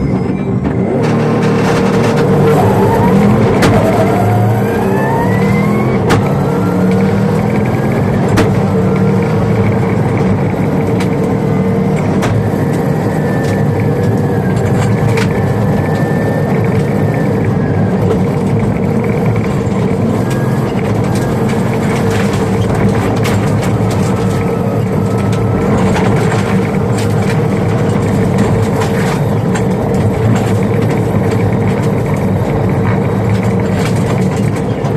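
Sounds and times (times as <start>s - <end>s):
car engine accelerating: 0.0s - 34.9s
road noise on gravel: 0.8s - 34.9s.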